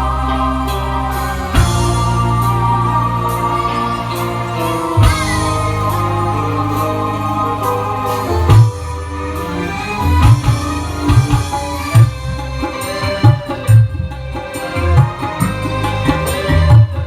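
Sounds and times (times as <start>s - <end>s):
heavy bass notes: 0.0s - 17.0s
loud music through sound system: 0.0s - 17.0s.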